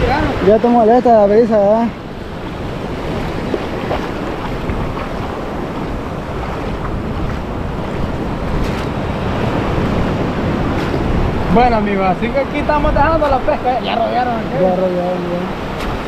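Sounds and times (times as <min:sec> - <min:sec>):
surf washing and foaming: 0:00.0 - 0:16.0
wind buffeting microphone: 0:00.0 - 0:16.0.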